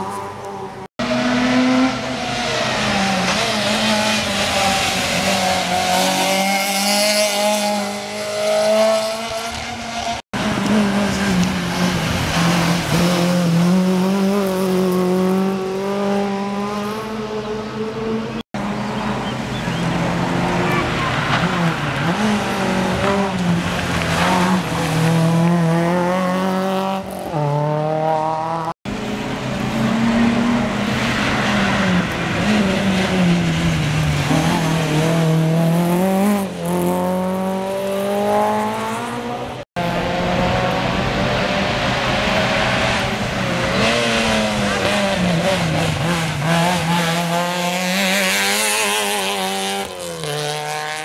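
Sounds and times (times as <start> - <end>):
rally car engines revving: 0.0 - 51.0.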